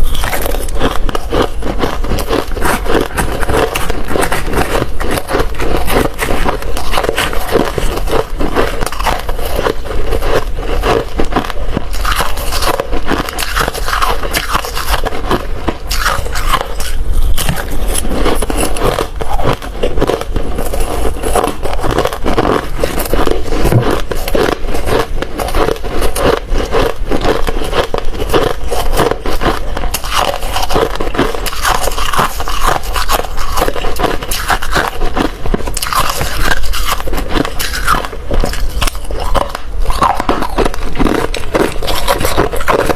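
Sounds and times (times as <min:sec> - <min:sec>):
ice being chewed and crunched: 0:00.0 - 0:42.9.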